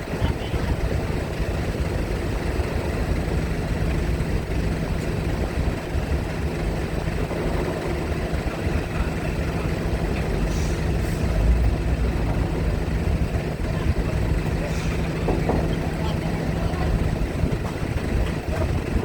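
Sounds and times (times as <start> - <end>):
heavy diesel engines running: 0.0 - 19.0.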